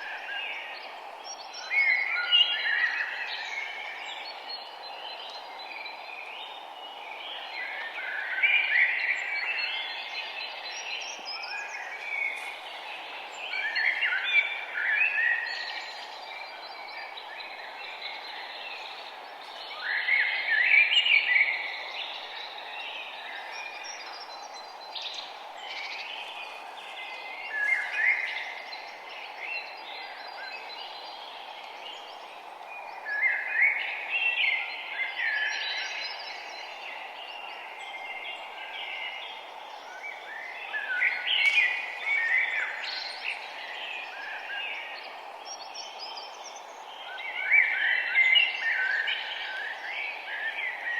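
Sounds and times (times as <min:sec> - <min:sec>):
bird song phrase: 0:00.0 - 0:50.9
steady background hiss: 0:00.0 - 0:50.9.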